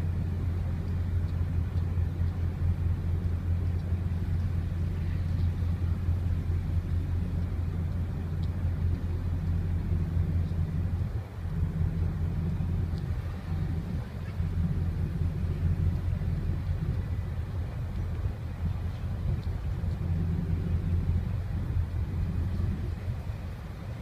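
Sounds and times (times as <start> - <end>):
ship engines humming: 0.0 - 24.0.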